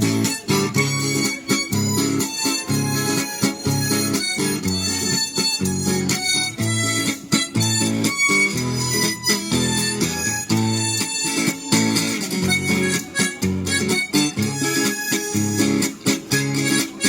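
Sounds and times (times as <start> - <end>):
guitar accompaniment: 0.0 - 17.0
harmonica melody: 0.0 - 17.0.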